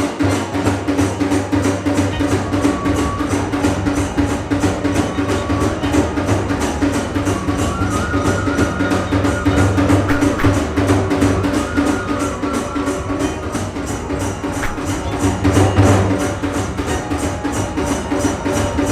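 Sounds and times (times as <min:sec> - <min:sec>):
drums: 0:00.0 - 0:18.9
jangling cymbals: 0:00.0 - 0:18.9
thin held melody line: 0:00.0 - 0:18.9.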